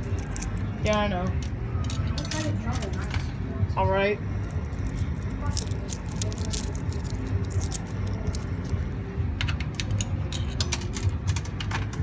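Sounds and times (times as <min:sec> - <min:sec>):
coins clicking through coin mechanism: 0:00.0 - 0:03.2, 0:04.4 - 0:12.0
steady low hum: 0:00.0 - 0:12.0.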